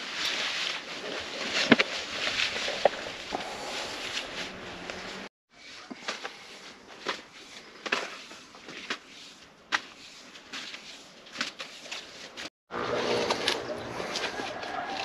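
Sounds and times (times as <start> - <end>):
rope rustling through hands: 0.0 - 12.5.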